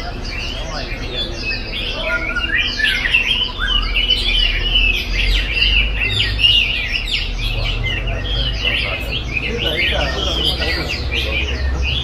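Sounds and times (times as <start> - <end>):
bird singing: 0.0 - 12.0.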